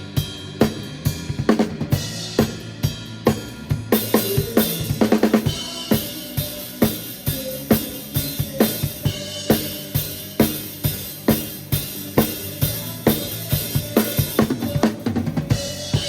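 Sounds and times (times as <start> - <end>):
drum kit groove: 0.0 - 16.0
rapid drum fill: 0.0 - 16.0.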